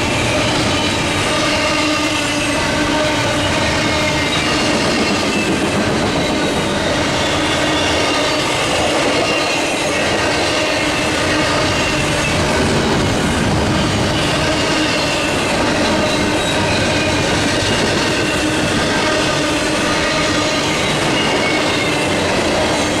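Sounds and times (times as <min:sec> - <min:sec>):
train wheels clattering on rails: 0:00.0 - 0:23.0
wheels squealing: 0:03.2 - 0:23.0.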